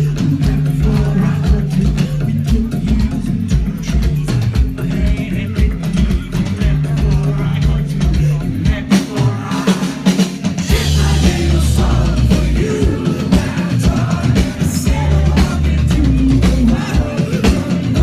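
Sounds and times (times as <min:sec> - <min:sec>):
live band playing: 0:00.0 - 0:18.0
person singing: 0:00.0 - 0:18.0.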